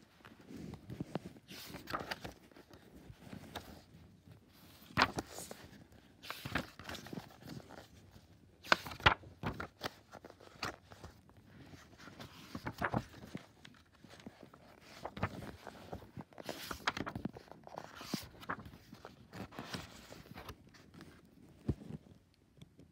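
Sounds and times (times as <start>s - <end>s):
book pages flipping: 0.2s - 22.3s.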